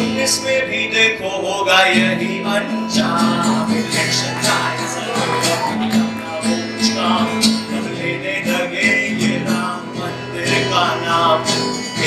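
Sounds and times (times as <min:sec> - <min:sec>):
acoustic guitar strumming: 0:00.0 - 0:12.0
man singing: 0:00.0 - 0:12.0.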